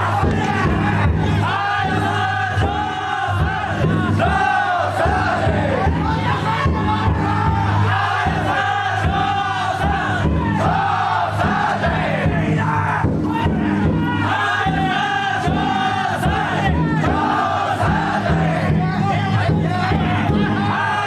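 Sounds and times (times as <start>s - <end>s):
men singing and shouting a chant: 0.0s - 21.0s
sharp drum beats: 0.0s - 21.0s.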